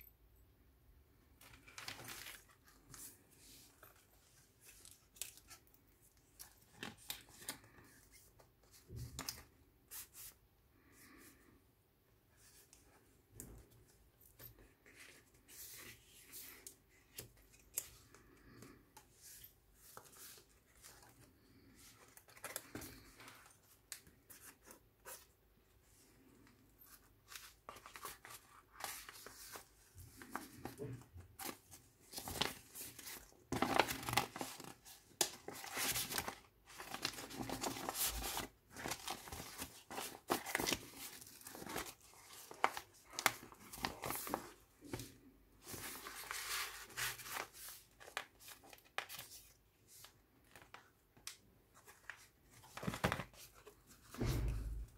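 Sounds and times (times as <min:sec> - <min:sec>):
paper pages rustling and crinkling: 0:01.3 - 0:10.4, 0:12.3 - 0:54.9.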